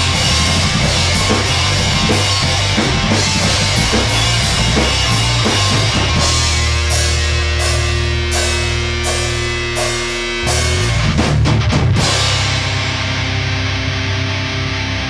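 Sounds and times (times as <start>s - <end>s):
drum kit beating: 0.0s - 13.6s
electric guitars: 0.0s - 15.0s
loud rock music: 0.0s - 15.0s.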